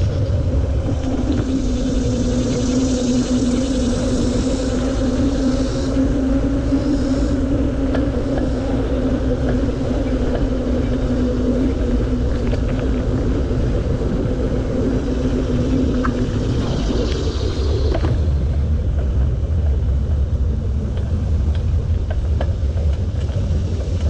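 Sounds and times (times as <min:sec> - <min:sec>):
bicycle tyres humming on pavement: 0:00.0 - 0:24.0
wind rumble on microphone: 0:00.0 - 0:24.0.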